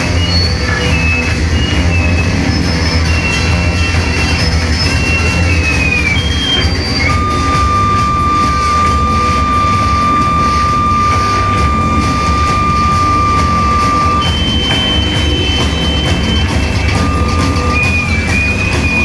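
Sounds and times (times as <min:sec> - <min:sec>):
harsh noise music: 0:00.0 - 0:19.0
high whining tone: 0:00.0 - 0:19.0.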